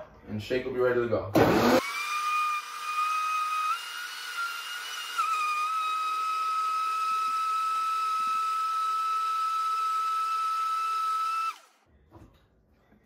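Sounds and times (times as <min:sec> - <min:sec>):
blender motor whining: 0:01.4 - 0:11.8.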